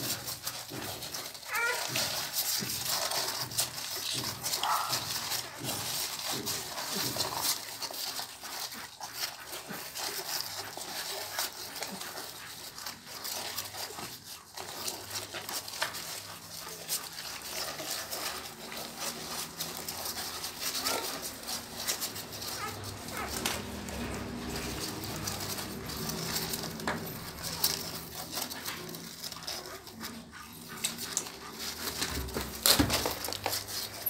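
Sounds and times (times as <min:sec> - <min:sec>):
puppies squeaking and whimpering: 0:00.0 - 0:34.0
puppies suckling: 0:00.0 - 0:34.0.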